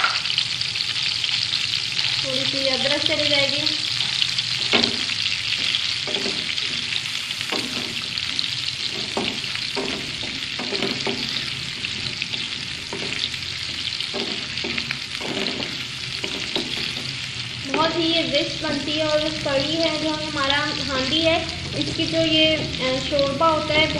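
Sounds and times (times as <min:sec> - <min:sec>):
frying sizzle with crackles: 0:00.0 - 0:23.9.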